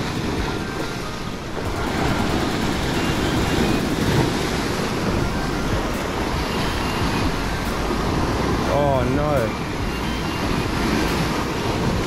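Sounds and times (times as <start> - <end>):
ocean waves washing over rock: 0.0 - 12.0
wind buffeting microphone: 0.0 - 12.0.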